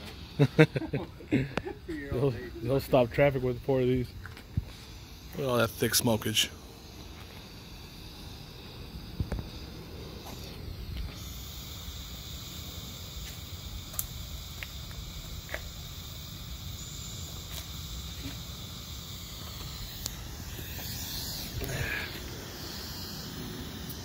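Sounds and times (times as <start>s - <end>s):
smoke firework hissing: 0.0s - 24.0s.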